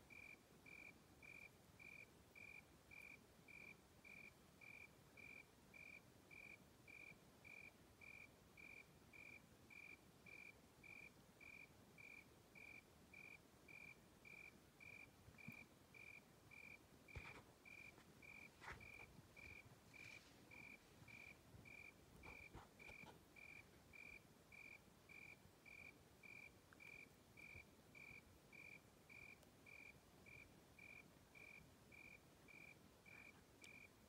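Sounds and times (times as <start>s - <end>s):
cricket chirping: 0.1s - 34.0s.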